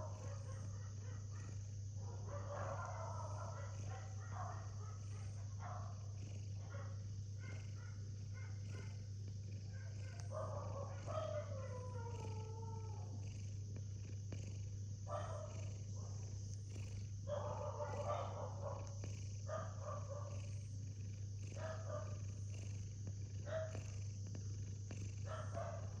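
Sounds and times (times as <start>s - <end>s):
cat snoring: 0.0s - 26.0s
steady low hum: 0.0s - 26.0s.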